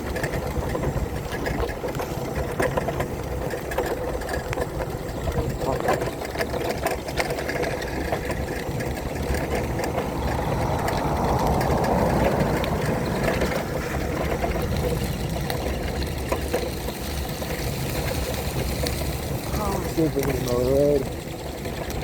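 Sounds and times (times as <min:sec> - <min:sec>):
small knocks and rattles: 0:00.0 - 0:22.0
wheelchair motor and tyres: 0:00.0 - 0:22.0.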